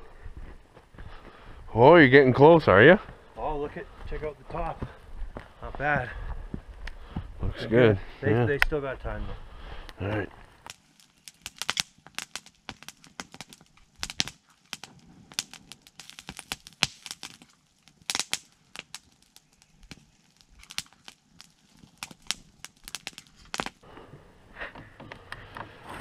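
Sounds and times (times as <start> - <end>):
campfire crackling and popping: 0.1 - 25.7.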